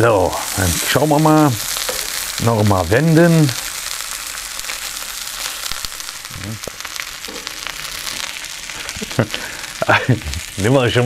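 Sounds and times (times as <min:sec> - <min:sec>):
bacon and sausages sizzling: 0:00.0 - 0:11.0.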